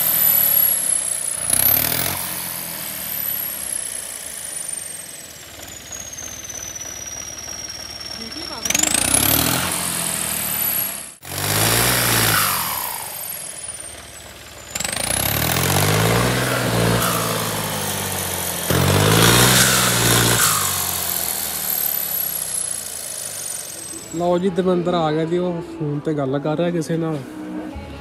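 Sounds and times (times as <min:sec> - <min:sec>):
turbocharger whistle: 0:00.0 - 0:24.3
tractor diesel engine revving: 0:00.0 - 0:25.4.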